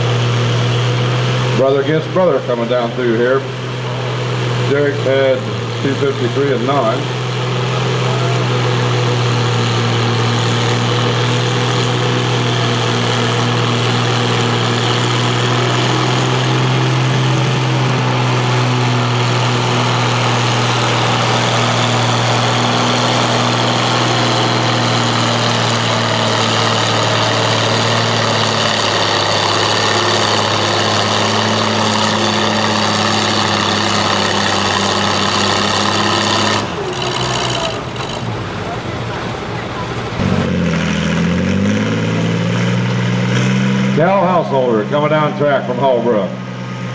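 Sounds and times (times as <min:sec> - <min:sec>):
tractor engine droning under load: 0:00.0 - 0:46.9.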